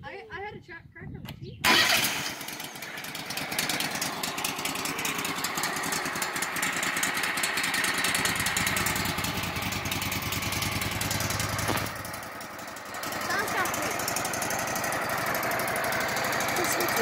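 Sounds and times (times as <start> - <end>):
gasoline engine running: 1.6 - 17.0.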